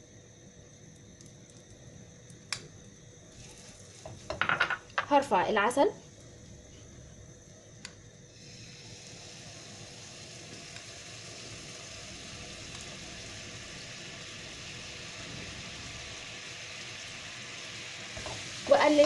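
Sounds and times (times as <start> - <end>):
honey sizzling in a pan: 0.0 - 19.0.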